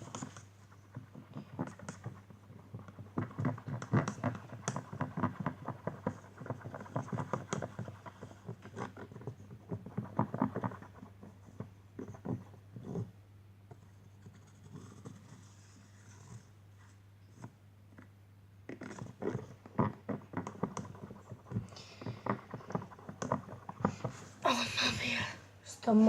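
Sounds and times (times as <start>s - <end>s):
sticky slime being stirred: 0.0s - 16.5s, 18.7s - 25.2s.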